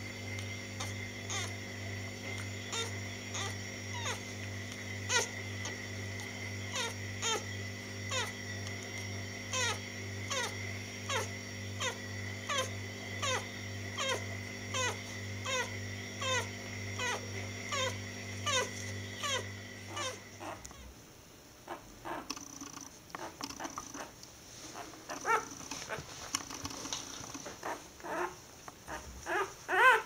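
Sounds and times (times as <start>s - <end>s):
steady low hum: 0.0s - 30.0s
puppy crying: 0.4s - 20.9s, 21.6s - 22.3s, 23.2s - 24.2s, 24.8s - 26.1s, 27.5s - 30.0s.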